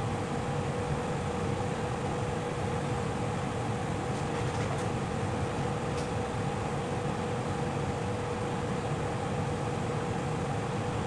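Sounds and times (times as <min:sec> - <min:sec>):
machine hum with pitched drone: 0:00.0 - 0:09.6.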